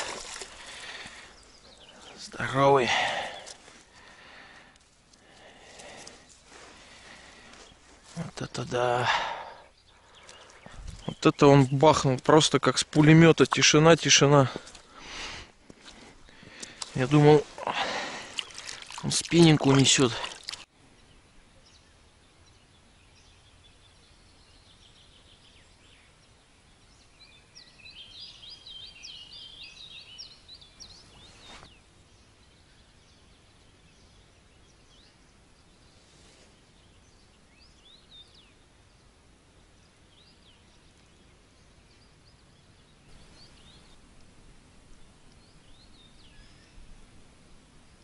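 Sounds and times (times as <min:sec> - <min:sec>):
faint outdoor hush: 0:00.0 - 0:26.5, 0:34.4 - 0:48.0
small birds singing: 0:00.0 - 0:48.0.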